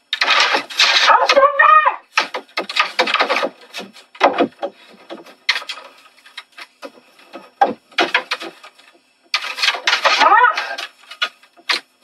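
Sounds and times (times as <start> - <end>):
hands banging keyboard: 2.1 - 11.9.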